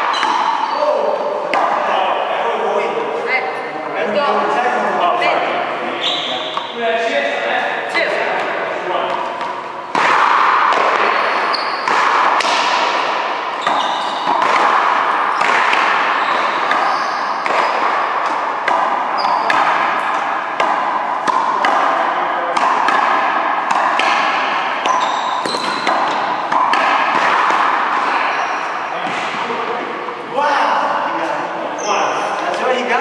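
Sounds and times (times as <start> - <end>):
racquetball strikes echoing: 0.0 - 33.0.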